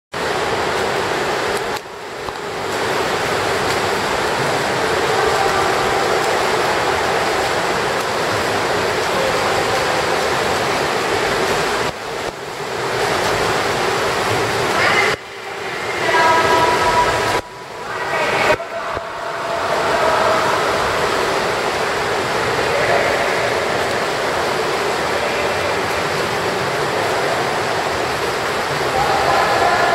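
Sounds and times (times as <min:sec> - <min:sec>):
swimmers splashing water: 0:00.1 - 0:29.9.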